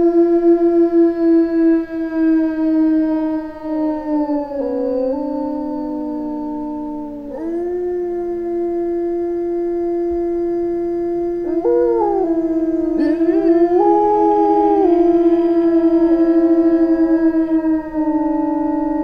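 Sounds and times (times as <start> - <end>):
wolves howling in chorus: 0.0 - 19.0.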